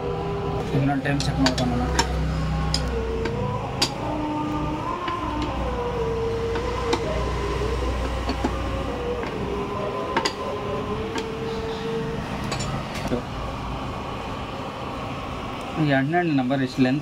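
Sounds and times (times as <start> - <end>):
wavering mechanical hum: 0.0 - 17.0.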